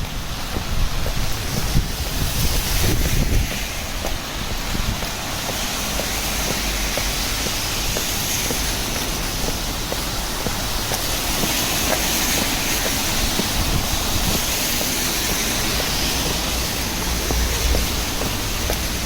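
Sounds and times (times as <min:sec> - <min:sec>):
rain hissing on street: 0:00.0 - 0:19.0.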